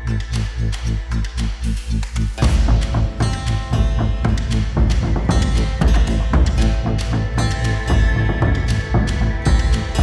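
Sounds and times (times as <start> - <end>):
background music with heavy beat: 0.0 - 10.0.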